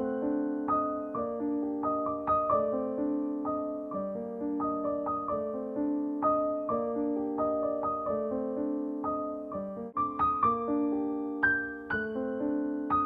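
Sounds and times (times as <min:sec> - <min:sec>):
soft arpeggiated piano music: 0:00.0 - 0:13.0.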